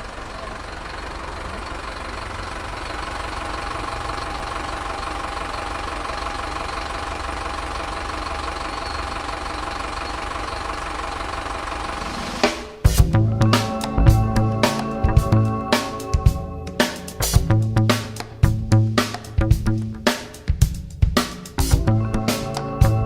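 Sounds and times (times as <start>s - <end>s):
engine idling with knocking rhythm: 0.0s - 23.0s.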